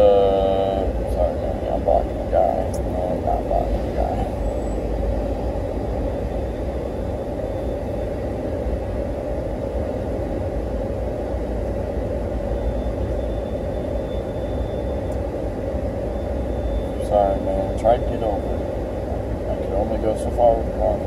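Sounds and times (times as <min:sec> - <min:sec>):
car engine low rumble: 0:00.0 - 0:21.0.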